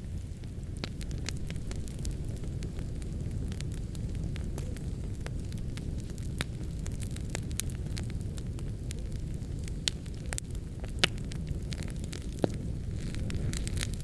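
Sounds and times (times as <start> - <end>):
fire flames rumbling: 0.0 - 14.0
wood fire crackling and popping: 0.0 - 14.0.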